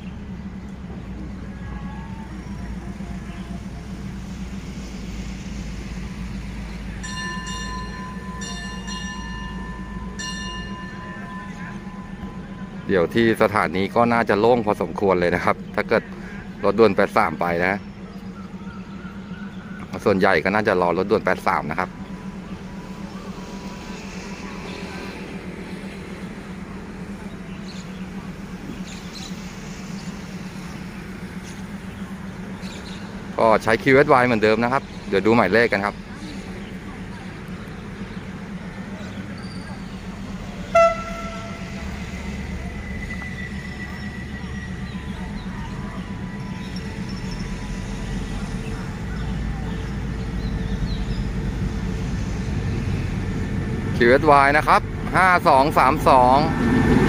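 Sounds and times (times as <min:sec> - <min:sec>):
locomotive engine drone: 0:00.0 - 0:57.0
outdoor background noise: 0:00.0 - 0:57.0
steady low hum: 0:00.0 - 0:57.0.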